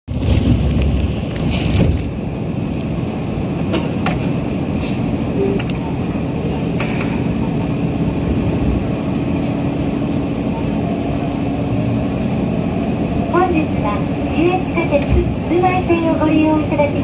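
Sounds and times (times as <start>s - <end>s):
subway train rumbling: 0.1s - 17.0s.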